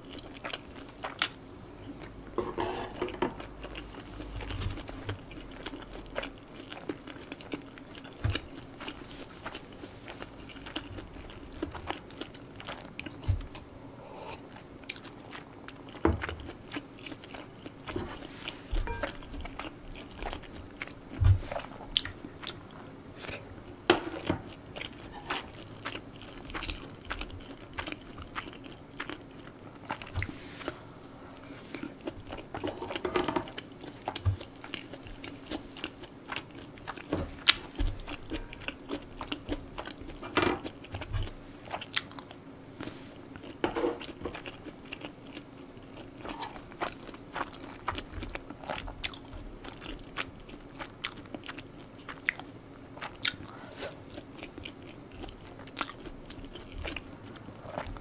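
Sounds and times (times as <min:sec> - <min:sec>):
chewing and biting food: 0:00.0 - 0:02.2, 0:03.0 - 0:13.7, 0:14.5 - 0:31.1, 0:31.7 - 0:42.5, 0:43.1 - 0:58.0.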